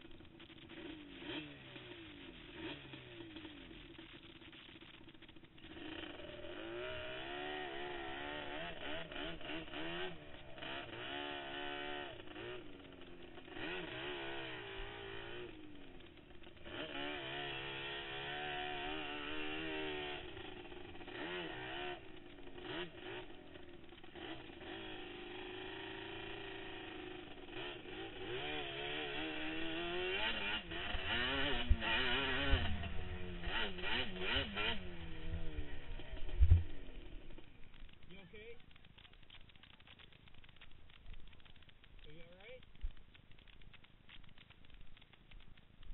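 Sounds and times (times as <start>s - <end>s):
quad engine revving: 0.0s - 43.6s.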